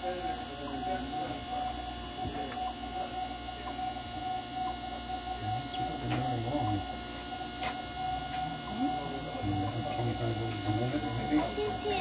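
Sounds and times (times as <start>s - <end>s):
electrical hum with high tone: 0.0s - 12.0s.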